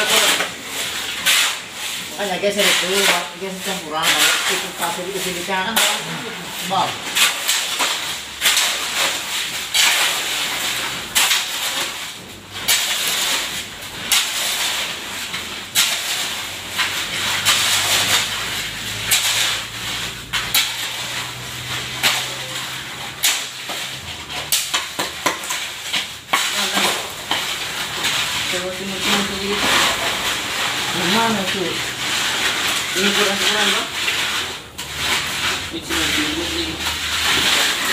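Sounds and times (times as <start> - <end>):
shovels scraping wet concrete: 0.0 - 37.9.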